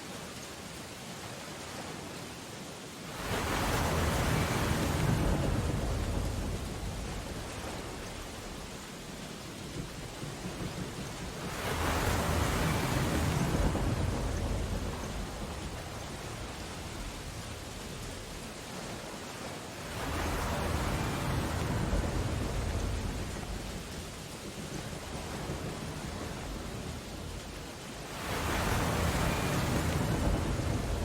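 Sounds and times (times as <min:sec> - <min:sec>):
storm waves crashing: 0:03.0 - 0:31.0.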